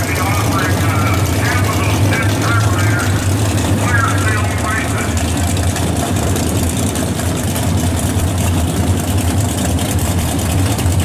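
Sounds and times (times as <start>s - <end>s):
racing car engine idling: 0.0s - 11.0s.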